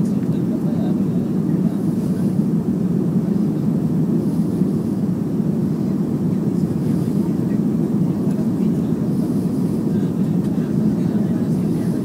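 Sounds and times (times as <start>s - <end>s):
airflow over fuselage: 0.0s - 12.0s
jet engines low noise: 0.0s - 12.0s.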